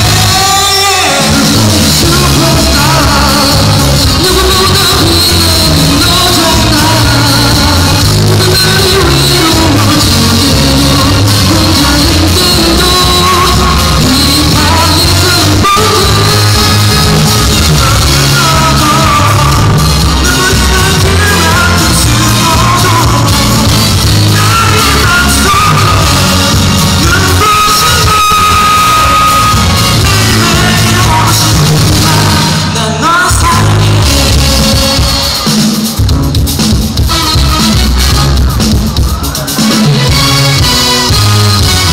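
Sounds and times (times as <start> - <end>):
bass: 0.0 - 41.9
drums: 0.0 - 41.9
live band playing: 0.0 - 41.9
person singing: 0.0 - 41.9.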